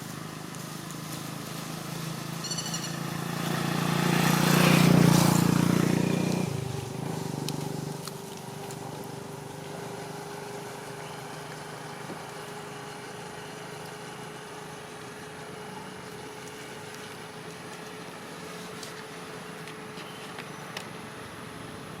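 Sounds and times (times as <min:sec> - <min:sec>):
engine hum: 0:00.0 - 0:22.0.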